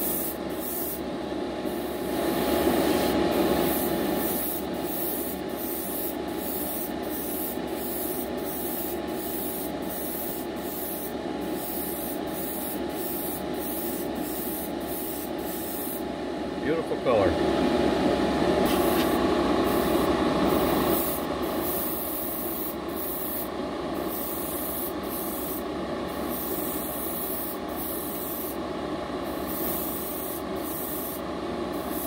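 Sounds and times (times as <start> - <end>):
airbrush spraying hiss: 0.0 - 1.0, 1.7 - 16.1, 18.7 - 28.6, 29.3 - 32.0
paint booth fan hum: 0.0 - 32.0.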